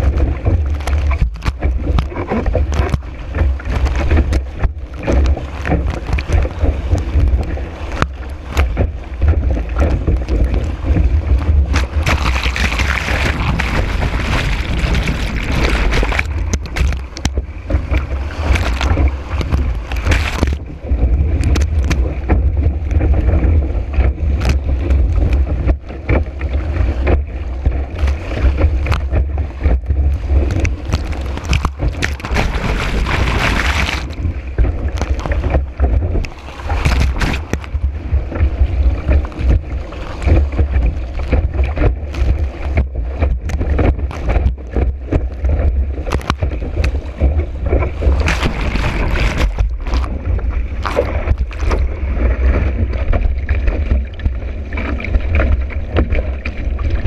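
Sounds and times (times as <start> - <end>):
hull slapping on water: 0.0 - 57.0
water rushing: 0.0 - 57.0
wind buffeting microphone: 0.0 - 57.0.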